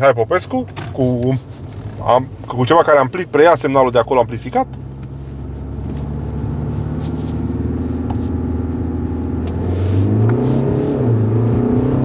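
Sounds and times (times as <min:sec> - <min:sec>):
diesel engine in car cabin: 0:00.0 - 0:12.0
road rumble: 0:00.0 - 0:12.0.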